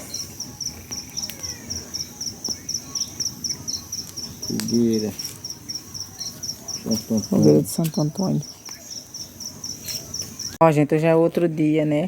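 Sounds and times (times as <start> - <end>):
crickets chirping: 0.0 - 10.6.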